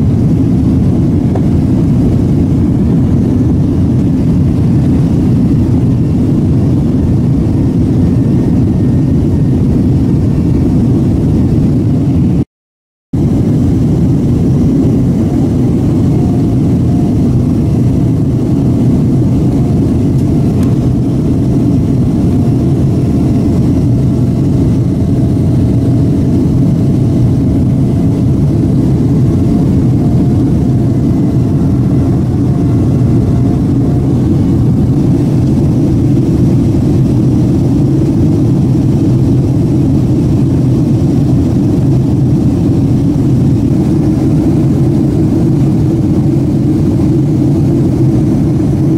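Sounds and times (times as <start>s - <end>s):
jet airliner cabin rumble: 0.0s - 12.5s, 13.2s - 48.9s.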